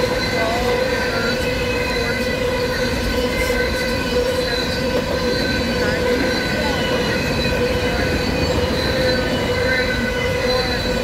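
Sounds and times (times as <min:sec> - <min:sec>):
high ringing tones: 0:00.0 - 0:11.0
train wheels rumbling on rail: 0:00.0 - 0:11.0.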